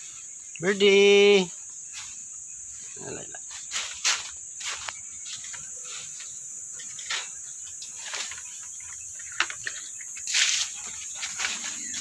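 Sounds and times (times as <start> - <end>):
high-pitched insect drone: 0.0 - 12.0
leaves rustling: 0.0 - 12.0.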